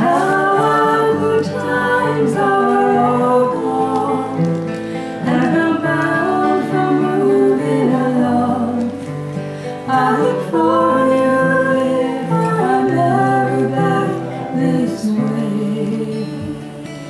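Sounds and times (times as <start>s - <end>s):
acoustic guitars strummed: 0.0s - 17.0s
women singing: 0.0s - 17.0s.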